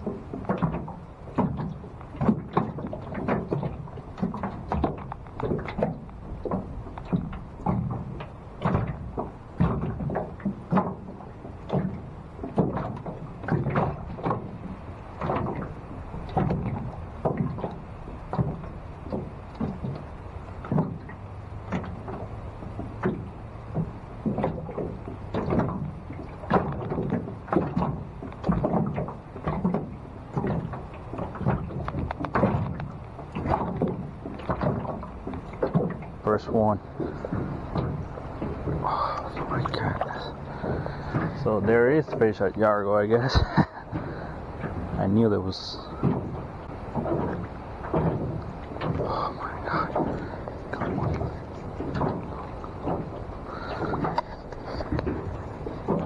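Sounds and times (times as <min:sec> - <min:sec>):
choppy water slapping and splashing: 0:00.0 - 0:56.0
low wind rumble: 0:00.0 - 0:56.0.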